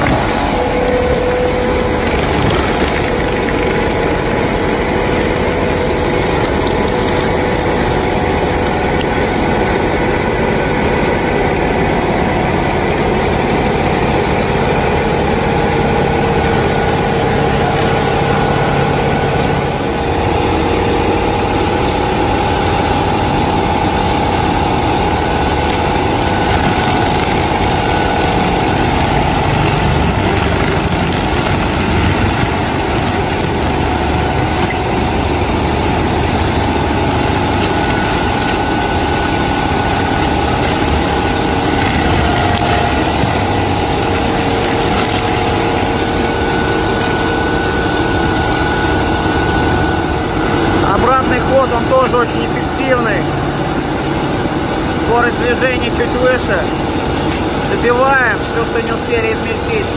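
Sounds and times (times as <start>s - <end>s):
mulcher whine: 0.0s - 59.9s
tractor engine droning: 0.0s - 59.9s.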